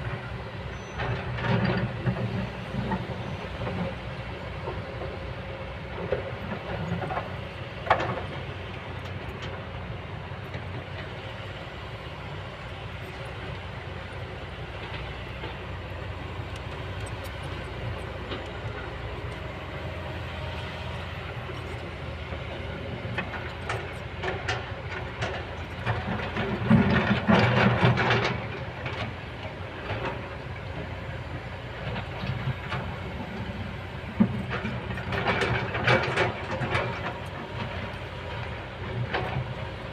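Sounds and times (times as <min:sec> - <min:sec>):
excavator running: 0:00.0 - 0:39.9.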